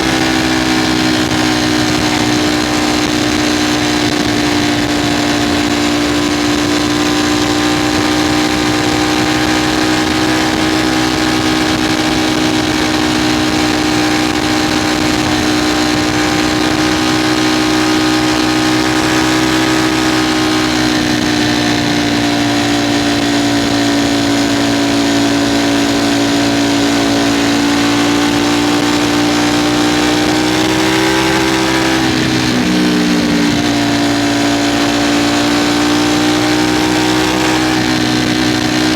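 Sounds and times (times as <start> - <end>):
motorcycle engine high pitch: 0.0 - 38.9
riding wind noise: 0.0 - 38.9.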